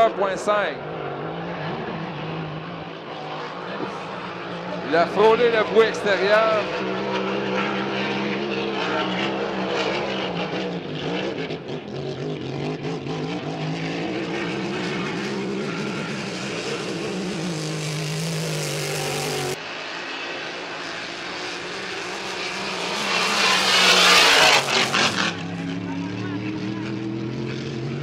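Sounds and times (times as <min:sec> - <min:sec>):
racing boat engine at high speed: 0:00.0 - 0:28.0.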